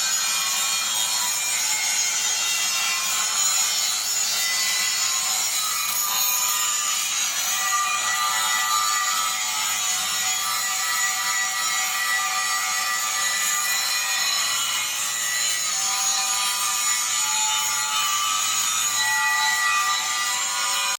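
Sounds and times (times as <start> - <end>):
angle grinder grinding metal: 0.0 - 20.9.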